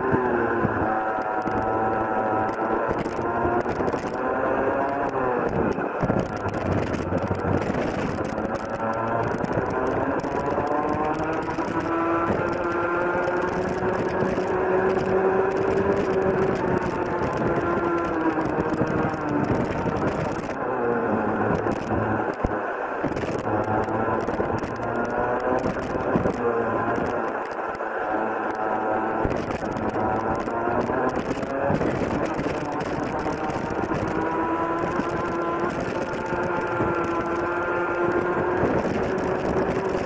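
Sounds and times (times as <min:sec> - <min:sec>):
kart engine at full throttle: 0:00.0 - 0:40.0.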